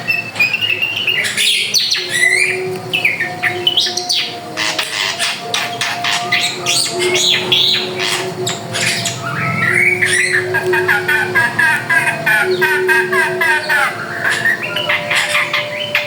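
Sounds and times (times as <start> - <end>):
drongo singing: 0.0 - 16.0.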